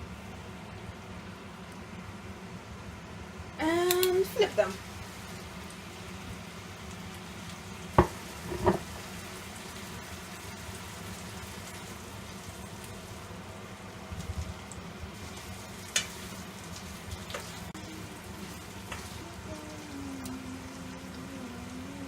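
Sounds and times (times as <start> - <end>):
chicken sizzling in a skillet: 3.6 - 21.9.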